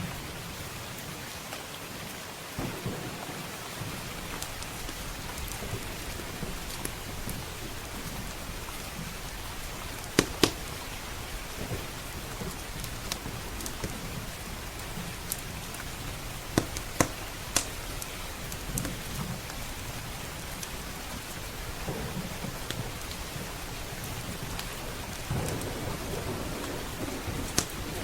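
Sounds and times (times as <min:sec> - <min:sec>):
heavy rain: 0:00.0 - 0:28.0
low thunder rumble: 0:02.6 - 0:28.0
wood fire crackling and popping: 0:02.6 - 0:28.0.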